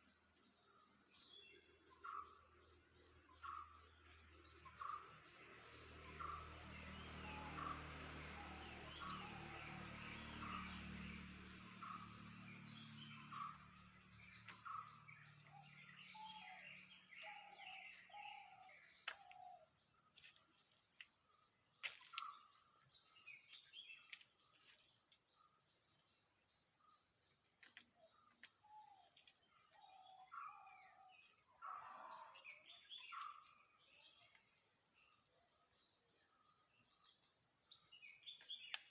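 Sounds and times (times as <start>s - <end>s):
birds chirping: 0.0s - 38.9s
low engine-like hum: 1.8s - 38.7s.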